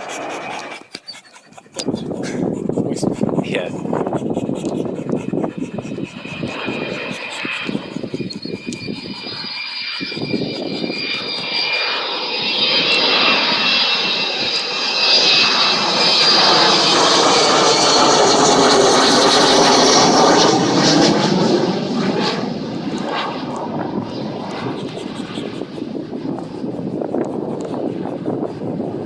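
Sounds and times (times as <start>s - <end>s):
jet aircraft flying past: 0.0s - 29.0s.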